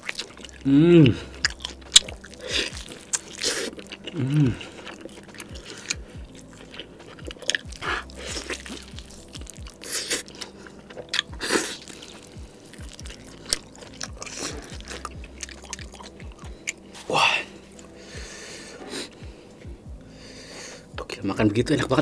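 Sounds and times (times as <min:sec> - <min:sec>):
wet chewing and biting: 0:00.0 - 0:19.7
faint background music: 0:00.0 - 0:22.0.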